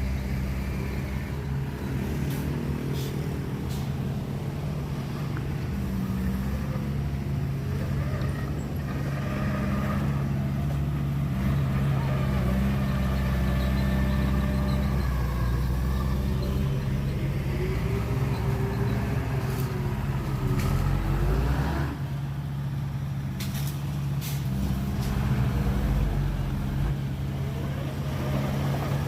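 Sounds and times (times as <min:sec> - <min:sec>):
heavy diesel engine under load: 0:00.0 - 0:29.0.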